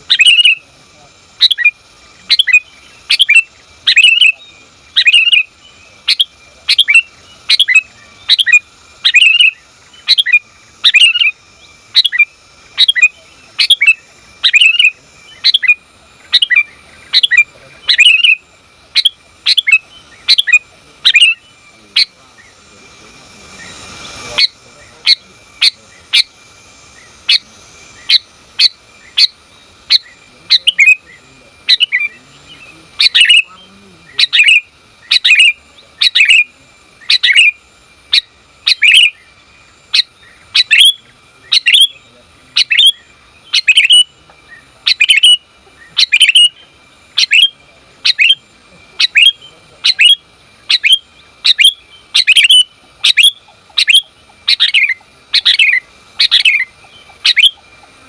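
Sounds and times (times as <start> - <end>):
bird short sharp calls: 0.0 - 0.7, 1.4 - 11.4, 12.0 - 39.3, 40.0 - 58.0.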